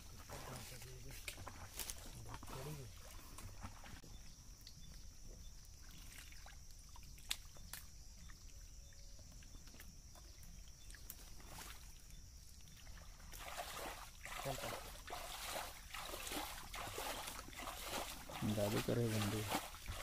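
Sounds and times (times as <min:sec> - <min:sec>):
muddy water sloshing: 0:00.0 - 0:20.0
small clicks and splashes: 0:00.6 - 0:04.0, 0:04.6 - 0:20.0.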